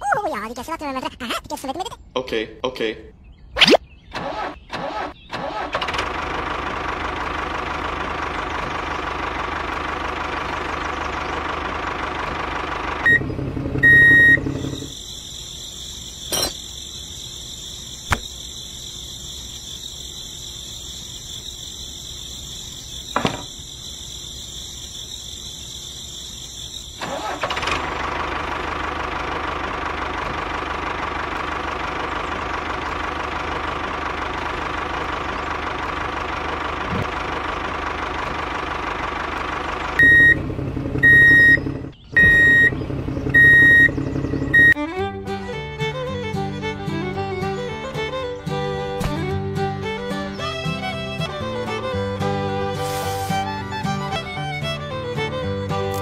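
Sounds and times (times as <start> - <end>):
small tractor engine running: 4.2 - 18.5, 19.2 - 56.0.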